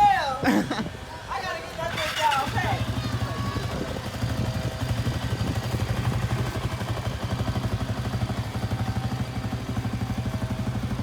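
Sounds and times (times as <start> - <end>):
atv engine idling: 1.5 - 11.0.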